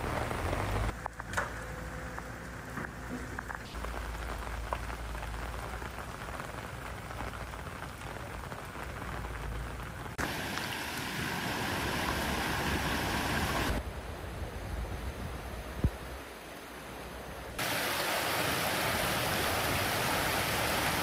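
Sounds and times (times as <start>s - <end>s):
heavy rain falling: 0.0s - 1.2s, 3.3s - 13.8s, 15.5s - 21.0s
hissy rush of water: 3.7s - 21.0s.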